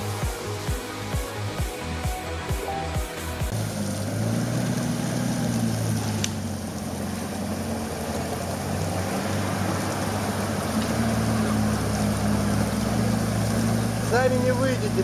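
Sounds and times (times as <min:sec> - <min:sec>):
vehicle engine running: 0:00.0 - 0:15.0
wash of noise: 0:00.0 - 0:15.0.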